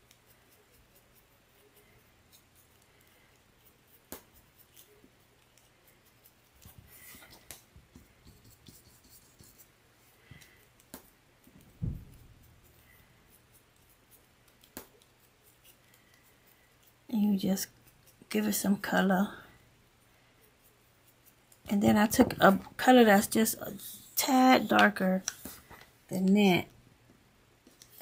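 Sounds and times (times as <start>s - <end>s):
paintbrush scratching: 0.0s - 19.1s, 20.4s - 25.7s.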